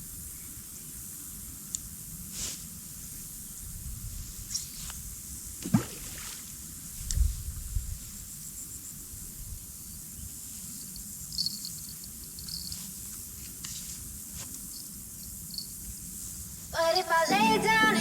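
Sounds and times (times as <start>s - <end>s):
crickets chirping: 0.0s - 17.4s.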